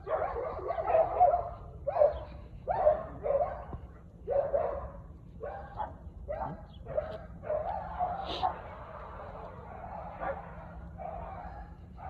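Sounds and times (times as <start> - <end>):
dog barking: 0.0 - 8.6, 9.6 - 12.0.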